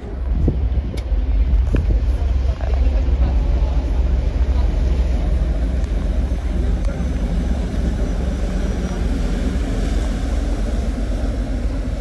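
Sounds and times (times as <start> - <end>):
ferry engines droning: 0.0 - 12.0
rushing wind: 0.0 - 12.0
water noise: 0.0 - 12.0.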